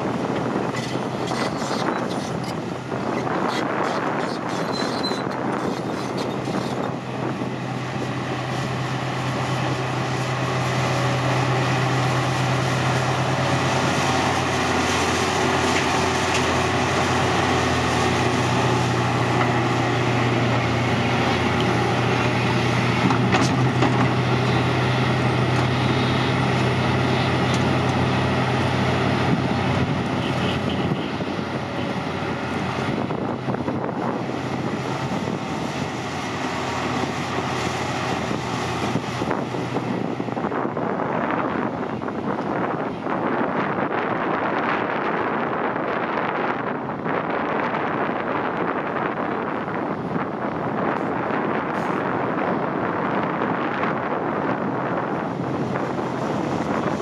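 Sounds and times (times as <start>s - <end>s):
excavator diesel engine working: 0.0s - 57.0s.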